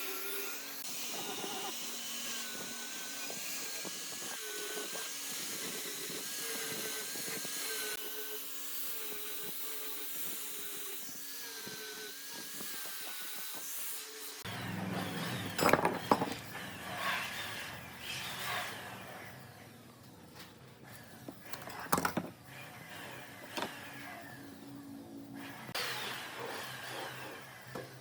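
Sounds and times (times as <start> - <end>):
power tool whining on wood: 0.0 - 19.5, 22.4 - 28.0.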